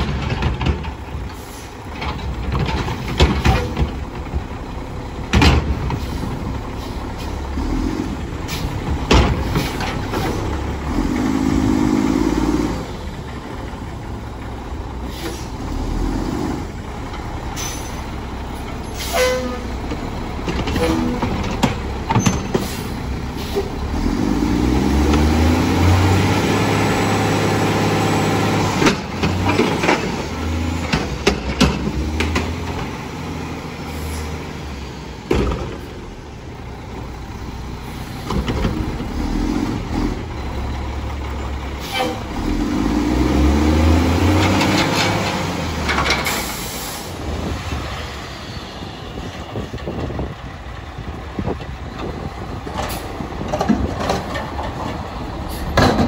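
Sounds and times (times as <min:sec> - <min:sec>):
garbage truck engine revving: 0:01.8 - 0:56.0.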